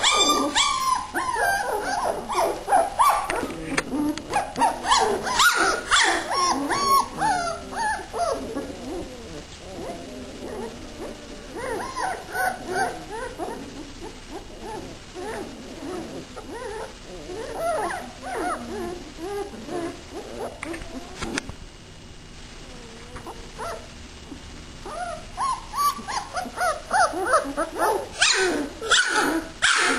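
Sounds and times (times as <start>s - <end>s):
puppies whimpering and yipping: 0.0s - 21.3s, 24.8s - 29.9s.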